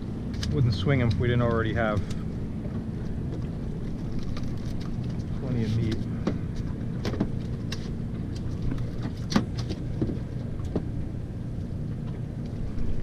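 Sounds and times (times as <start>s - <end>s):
outboard motor idling: 0.0s - 13.0s
fish flopping on deck: 0.2s - 11.0s.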